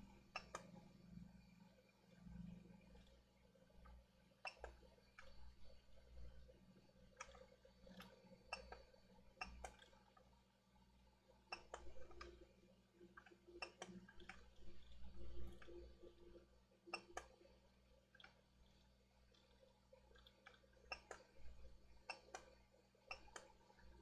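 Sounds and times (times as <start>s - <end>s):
small parts clicking and tapping: 0.1s - 0.8s, 2.1s - 10.4s, 11.0s - 24.0s.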